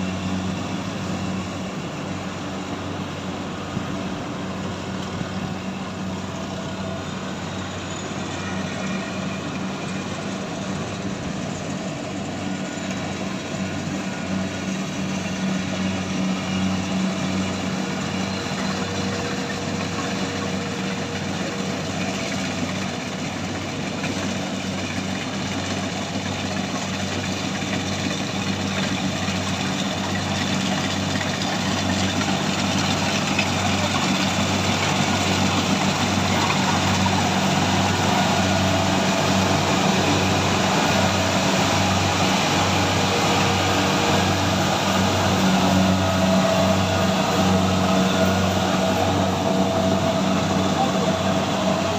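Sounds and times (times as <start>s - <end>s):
heavy machine engine humming: 0.0s - 51.9s.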